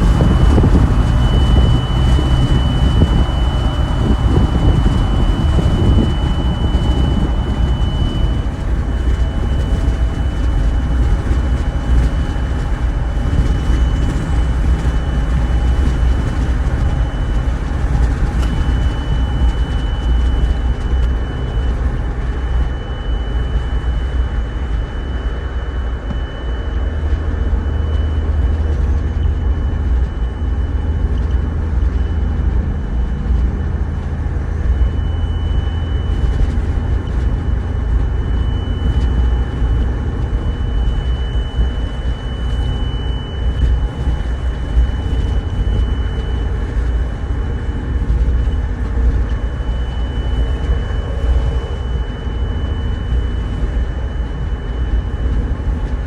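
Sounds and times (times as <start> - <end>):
heavy low rumble: 0.0 - 56.0
high-pitched tone in car cabin: 0.0 - 56.0.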